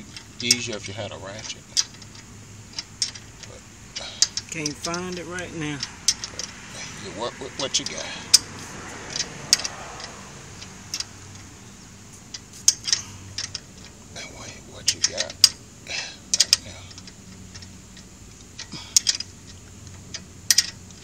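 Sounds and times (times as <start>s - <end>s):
wrench clicking on bolt: 0.0s - 7.0s, 7.6s - 11.5s, 12.3s - 14.0s, 16.3s - 21.0s.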